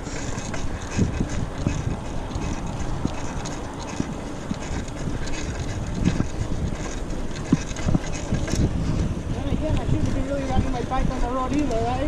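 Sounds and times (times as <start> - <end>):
bike tyres rolling on road: 0.0 - 12.0
wind buffeting microphone: 0.0 - 12.0.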